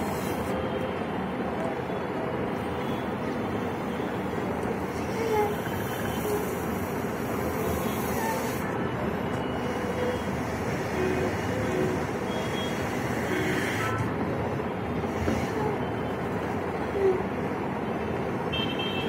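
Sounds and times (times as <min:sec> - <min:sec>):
rushing background noise: 0:00.0 - 0:18.8.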